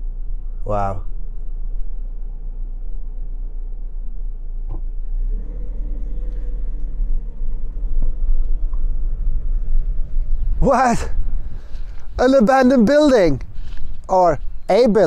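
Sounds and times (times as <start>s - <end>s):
steady low hum: 0.0s - 15.0s
wind rumbling on microphone: 0.0s - 15.0s.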